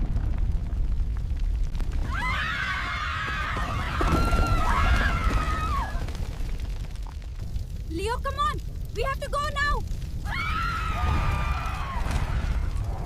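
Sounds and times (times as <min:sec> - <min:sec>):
volcanic eruption rumble: 0:00.0 - 0:13.0.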